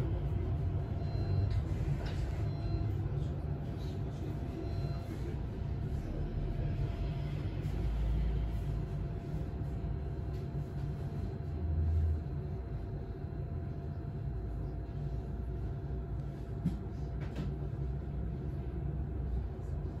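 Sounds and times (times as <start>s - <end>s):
bus interior rumble: 0.0s - 20.0s.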